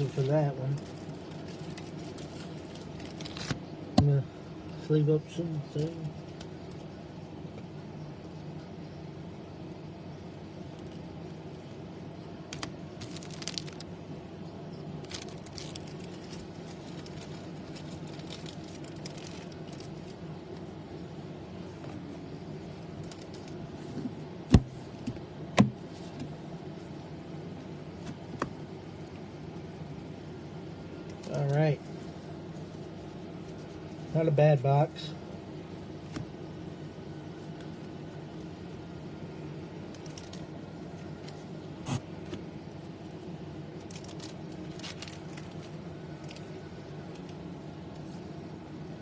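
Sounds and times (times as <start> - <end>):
steady background hum: 0.0 - 49.0.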